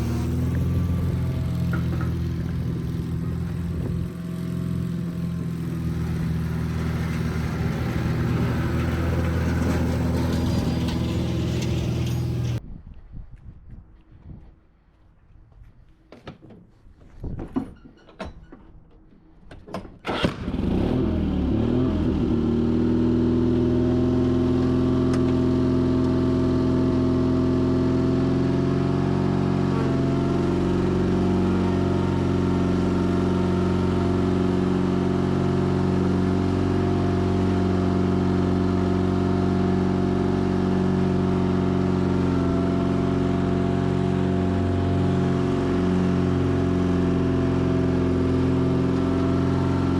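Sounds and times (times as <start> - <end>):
garden tractor engine starting and running: 0.0 - 12.6, 19.9 - 49.9.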